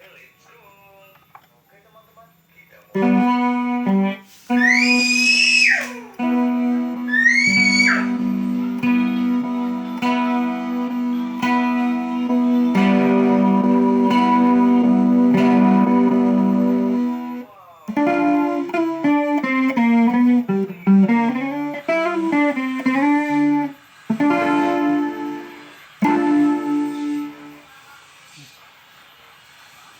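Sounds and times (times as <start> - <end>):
electric guitar with effects: 2.9 - 27.7.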